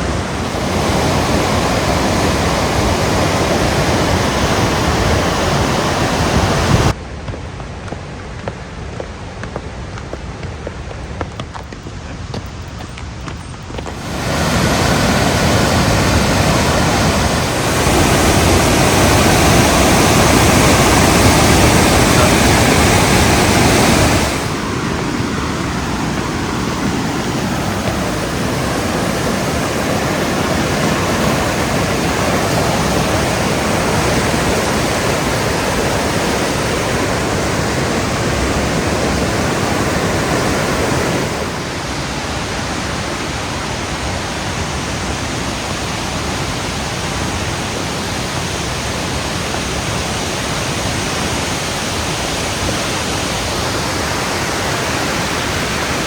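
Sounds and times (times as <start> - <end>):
waterfall roaring: 0.0 - 7.0, 13.8 - 56.0.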